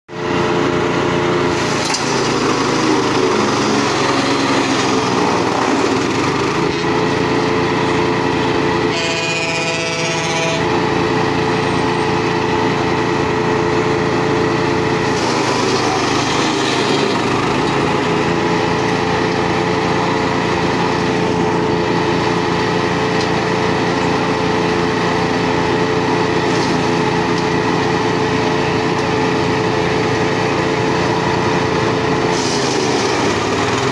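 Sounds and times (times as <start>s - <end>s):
wood chipper engine running: 0.1s - 33.9s.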